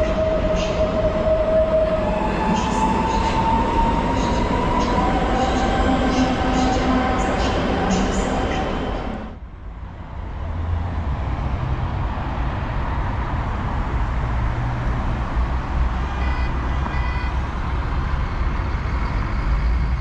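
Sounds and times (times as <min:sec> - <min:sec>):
cars and bus passing: 0:00.0 - 0:20.0.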